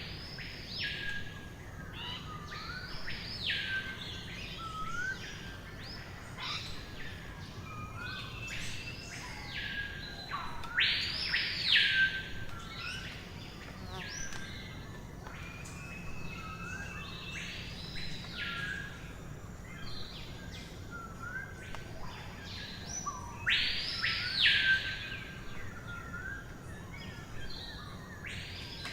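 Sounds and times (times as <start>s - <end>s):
songbirds singing: 0.0s - 28.9s.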